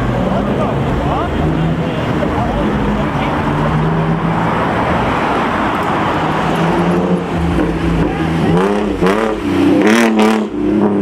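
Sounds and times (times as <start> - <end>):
car engine revving: 0.0 - 11.0
traffic roar: 0.0 - 11.0.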